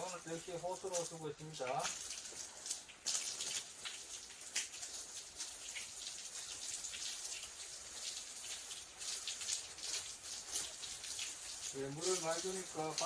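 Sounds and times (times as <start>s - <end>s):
water drips and splats: 0.0s - 13.0s
water from hose splashing on logs: 0.0s - 13.0s.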